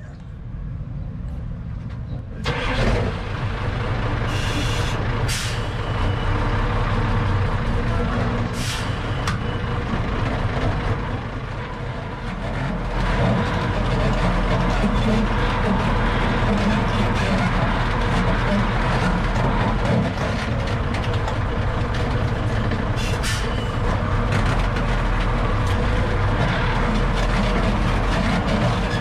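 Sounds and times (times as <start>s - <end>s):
truck engine rumbling: 0.0s - 29.0s.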